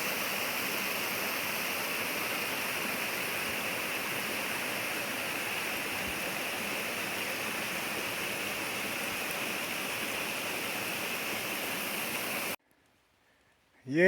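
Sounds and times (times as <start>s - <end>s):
rushing creek water: 0.0s - 12.6s.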